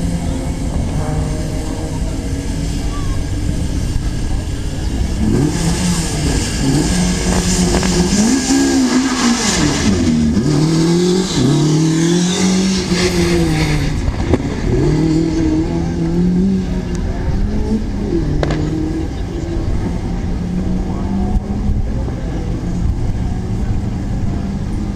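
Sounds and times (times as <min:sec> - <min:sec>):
rally car engine revving: 0:00.0 - 0:24.9.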